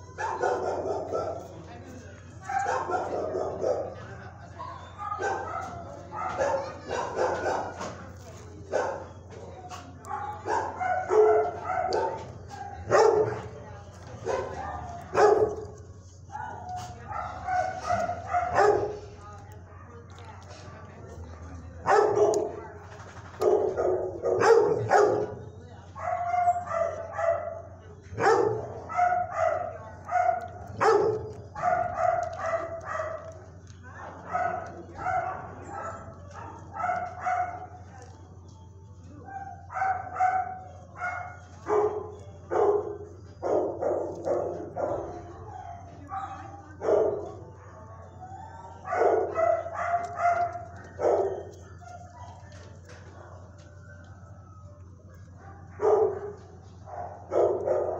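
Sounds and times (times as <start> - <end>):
dogs barking: 0.0 - 57.9.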